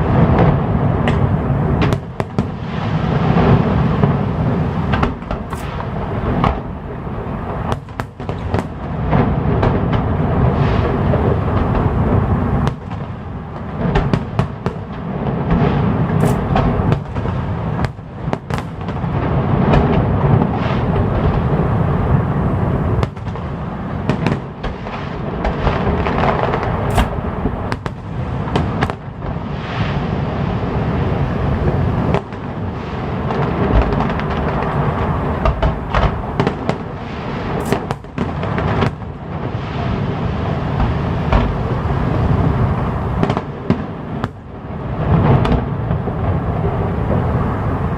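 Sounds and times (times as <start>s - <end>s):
fireworks booming and crackling: 0.0s - 47.9s.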